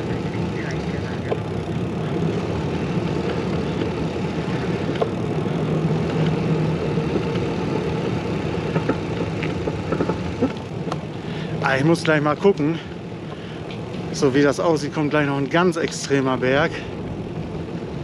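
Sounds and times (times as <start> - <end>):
bicycle trailer rolling noise: 0.0 - 18.0
rumbling wind: 0.0 - 18.0.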